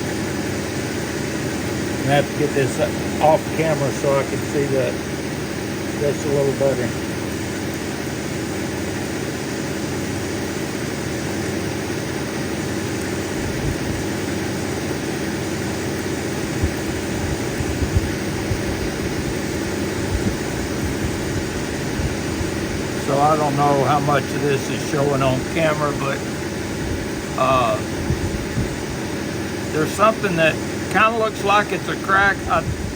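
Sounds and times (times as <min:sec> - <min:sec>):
grinding machine motor whirring: 0:00.0 - 0:32.9.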